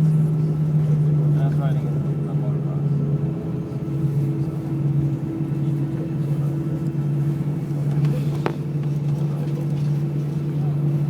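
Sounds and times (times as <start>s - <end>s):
airplane cabin engine drone: 0.0s - 11.0s.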